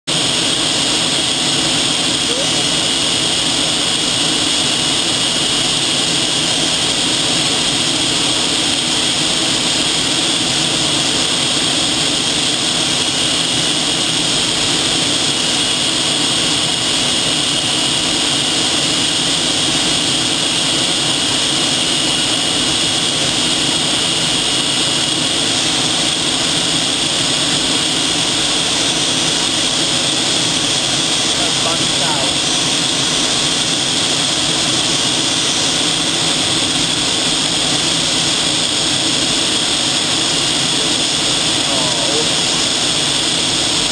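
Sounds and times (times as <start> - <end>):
constant high whine: 0.0 - 43.9
jet engine and airflow noise: 0.1 - 43.9.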